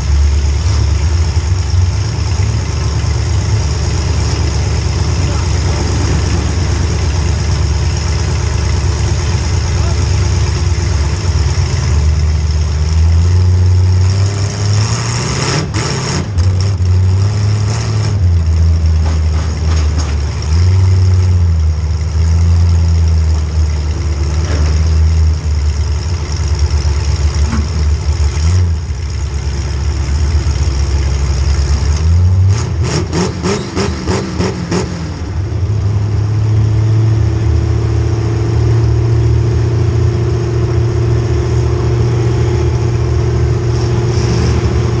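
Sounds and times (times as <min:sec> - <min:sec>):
car engine revving: 0:00.0 - 0:23.0, 0:30.1 - 0:45.0.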